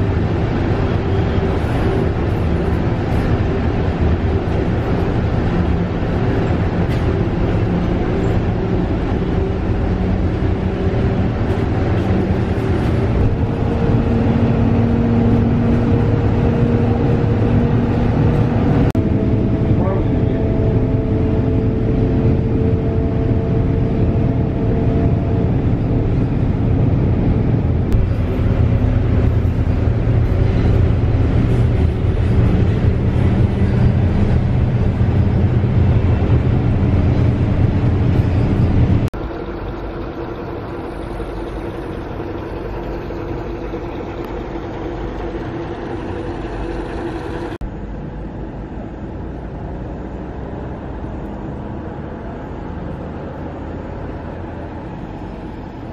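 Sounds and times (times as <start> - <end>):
bus engine and road rumble: 0.0 - 55.9.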